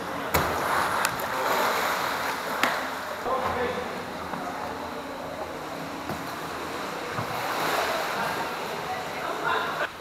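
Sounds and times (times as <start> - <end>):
echoing hiss of pool hall: 0.0 - 10.0
pool water sloshing and lapping: 0.0 - 10.0.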